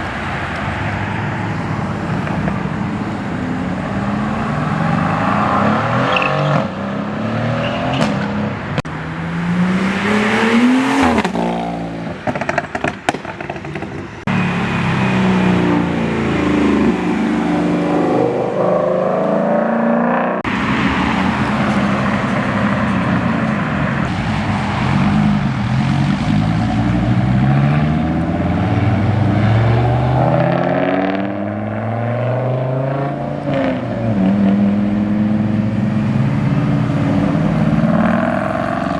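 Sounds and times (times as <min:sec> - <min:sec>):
cars accelerating hard: 0:00.0 - 0:38.9.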